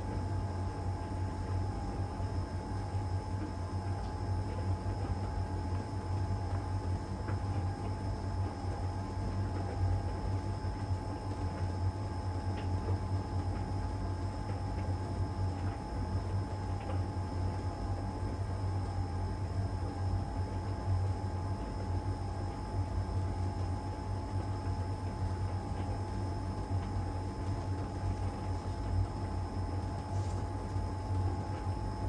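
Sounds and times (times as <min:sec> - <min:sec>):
tumble dryer hum and whine: 0:00.0 - 0:32.0.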